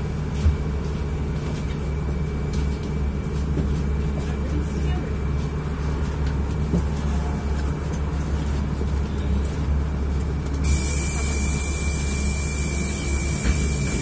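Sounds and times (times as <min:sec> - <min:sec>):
bus engine humming: 0:00.0 - 0:14.0.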